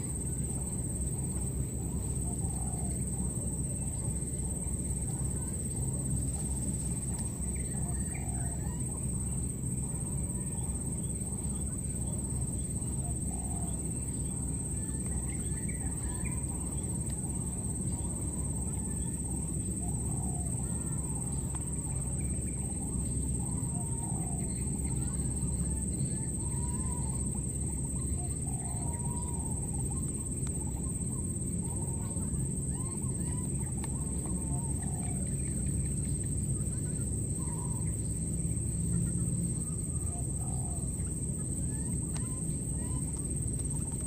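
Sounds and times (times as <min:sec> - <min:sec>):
high insect drone: 0:00.0 - 0:44.0
baby monkeys coo calls: 0:00.1 - 0:44.0.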